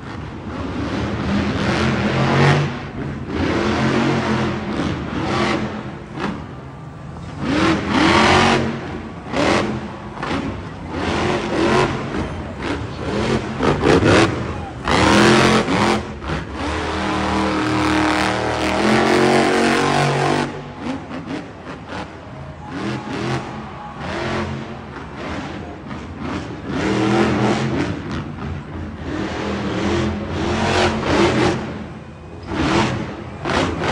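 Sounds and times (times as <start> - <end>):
truck engine revving hard: 0.0 - 33.9.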